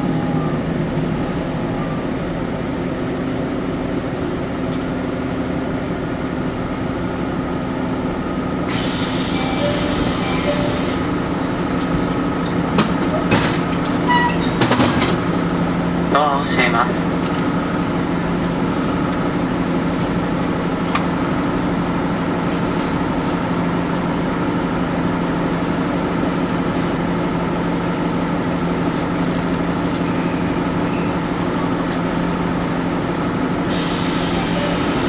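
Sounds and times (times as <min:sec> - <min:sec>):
train hum: 0:00.0 - 0:35.0.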